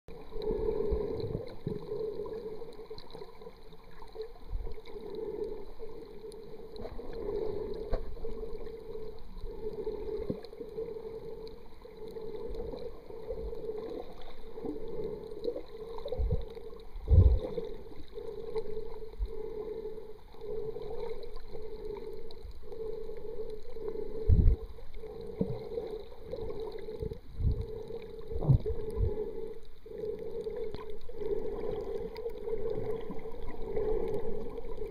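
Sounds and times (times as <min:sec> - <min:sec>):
muffled underwater hum: 0:00.1 - 0:34.9.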